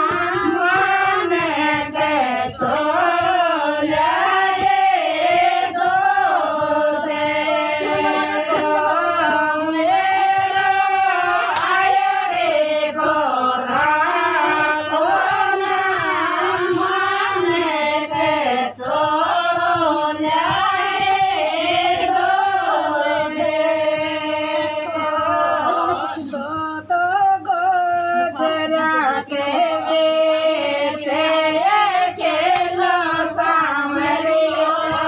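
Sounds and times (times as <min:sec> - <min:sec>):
women singing folk song: 0:00.0 - 0:35.0.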